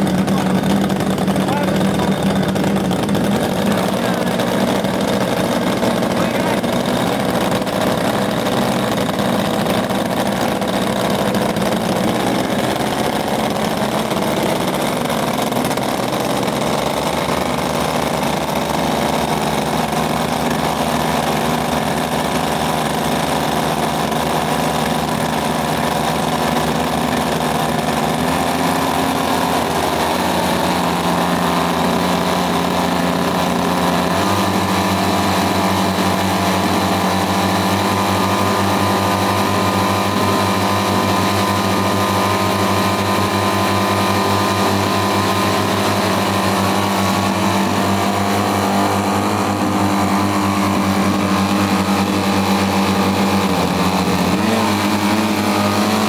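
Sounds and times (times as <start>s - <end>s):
small engines running loudly: 0.0s - 56.0s.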